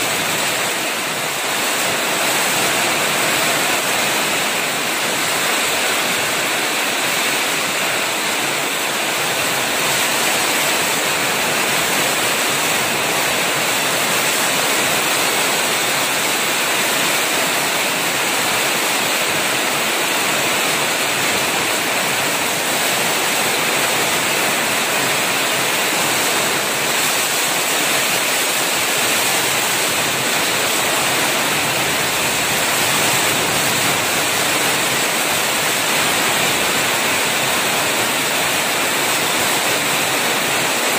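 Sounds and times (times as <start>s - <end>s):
heavy rain pouring: 0.0s - 40.9s
strong wind: 0.0s - 40.9s.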